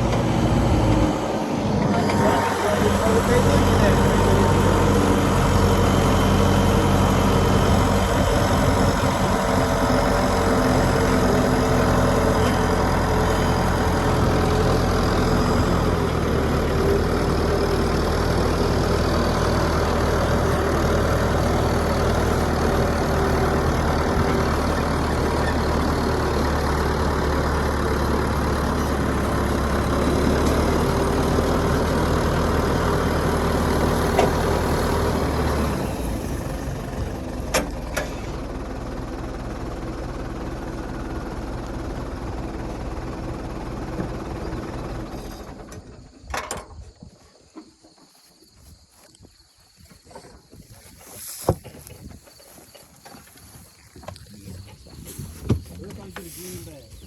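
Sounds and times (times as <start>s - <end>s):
engine idling: 0.0s - 46.2s.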